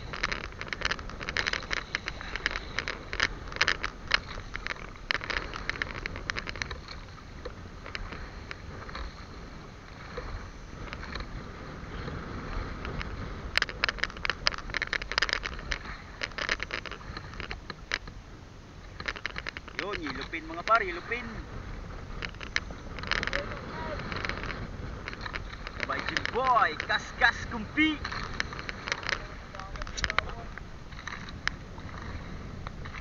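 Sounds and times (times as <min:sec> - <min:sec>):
boat engine low rumble: 0:00.0 - 0:33.0
water splashing against hull: 0:00.0 - 0:33.0
wind on microphone: 0:00.0 - 0:33.0.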